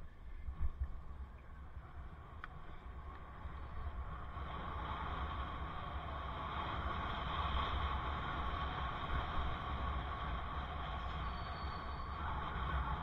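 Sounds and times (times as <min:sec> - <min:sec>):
bicycle tyre noise: 0:01.9 - 0:13.0.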